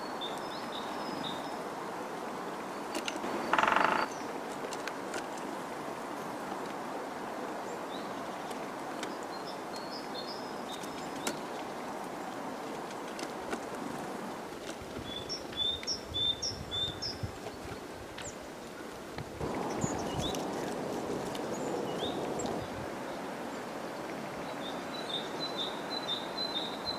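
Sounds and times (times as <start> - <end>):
background hiss: 0.0 - 26.9.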